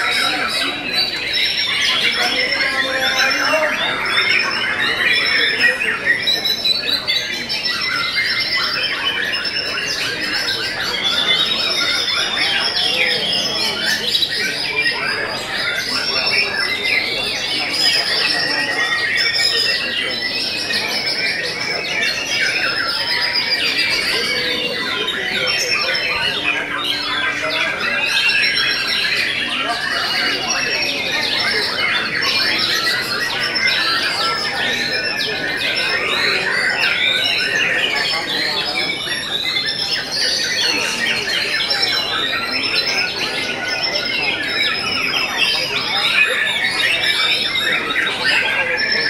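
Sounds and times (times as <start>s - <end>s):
many birds singing: 0.0s - 49.0s.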